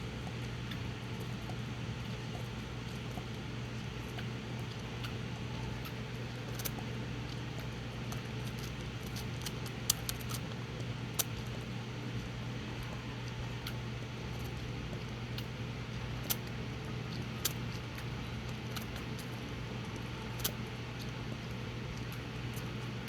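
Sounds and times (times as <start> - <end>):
squirrel feeding wet clicks: 0.0 - 23.0.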